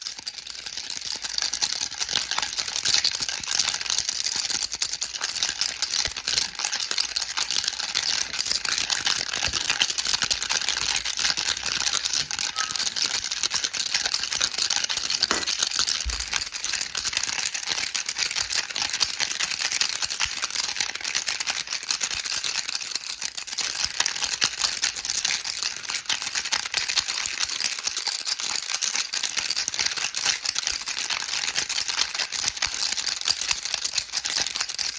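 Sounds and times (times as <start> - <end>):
baby rattle shaken: 0.0 - 34.9.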